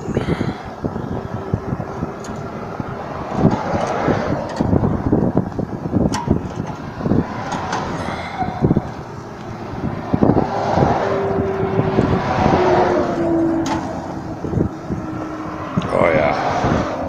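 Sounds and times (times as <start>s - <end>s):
low rumbling thumps: 0.0s - 15.9s
vehicle passing on road: 0.0s - 17.0s.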